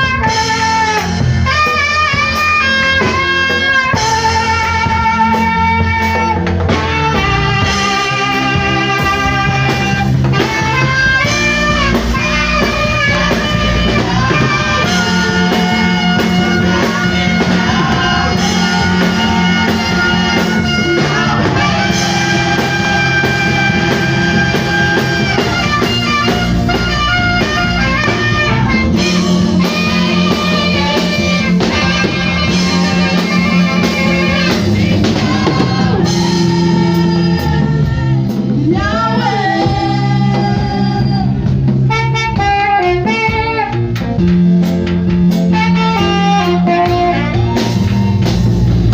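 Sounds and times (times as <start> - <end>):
saxophone playing melody: 0.0 - 44.3, 45.0 - 48.9
drum kit: 0.0 - 48.9
guitar: 0.0 - 48.9.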